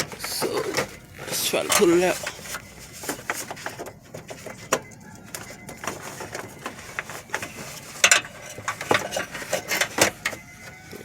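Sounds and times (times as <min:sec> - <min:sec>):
plastic clicks and rattles: 0:00.0 - 0:11.0.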